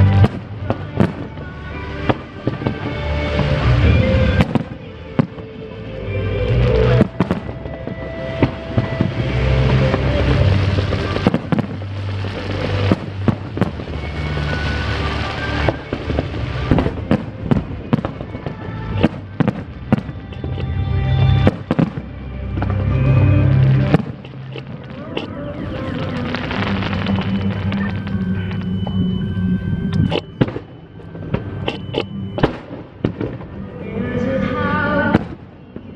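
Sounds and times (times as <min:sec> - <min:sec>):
fireworks bangs and crackling: 0:00.0 - 0:35.9
music playing: 0:00.0 - 0:35.9.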